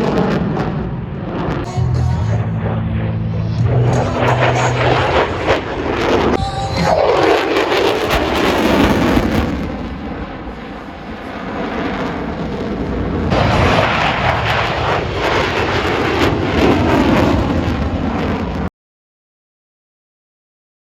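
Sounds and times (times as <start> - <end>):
airplane flying past: 0.0 - 18.4.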